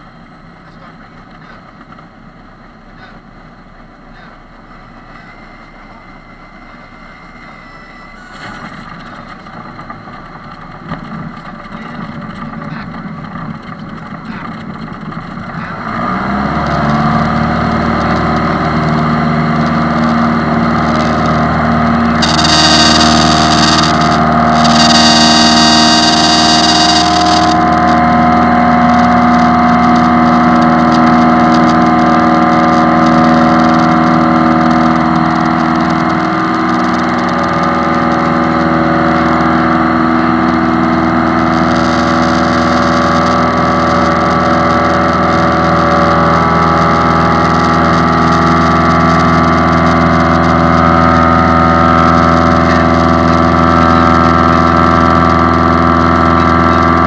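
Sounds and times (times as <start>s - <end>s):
light plane engine drone: 0.0s - 57.0s.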